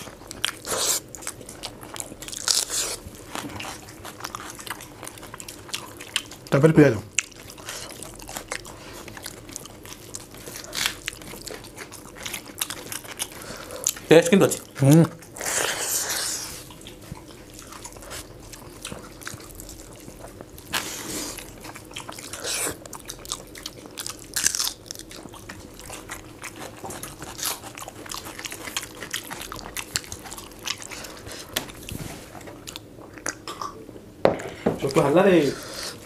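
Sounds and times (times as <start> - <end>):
close chewing and mouth sounds: 0.0 - 36.0.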